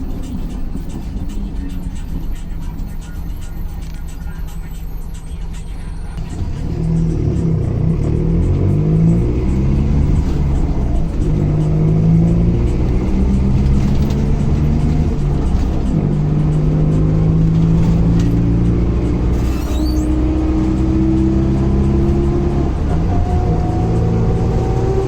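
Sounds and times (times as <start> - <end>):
diesel bus engine accelerating: 0.0 - 25.0.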